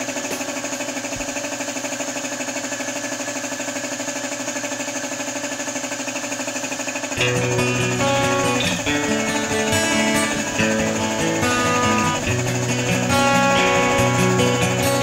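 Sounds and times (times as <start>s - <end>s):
air compressor pulsing: 0.0s - 15.0s.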